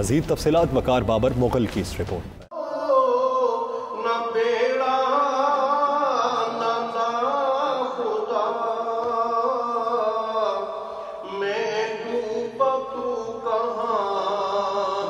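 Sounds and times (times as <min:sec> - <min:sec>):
man chanting into microphone: 0:02.5 - 0:15.0.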